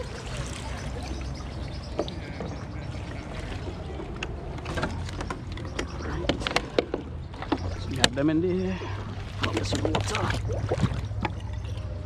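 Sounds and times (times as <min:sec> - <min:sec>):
water sloshing in a plastic bucket: 0:00.0 - 0:12.0.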